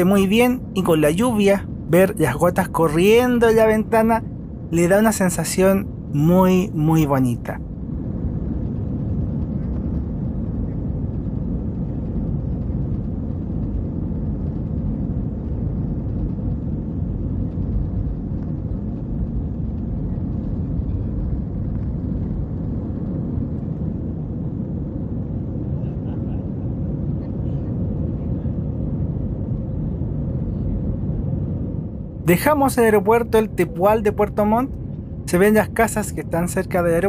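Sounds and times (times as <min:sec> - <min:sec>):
jet engines rumbling: 0:00.0 - 0:37.0.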